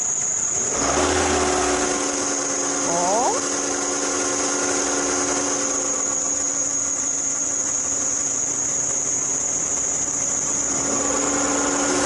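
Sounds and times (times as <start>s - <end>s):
car engine running: 0.0s - 12.0s
drive belt squealing: 0.0s - 12.0s.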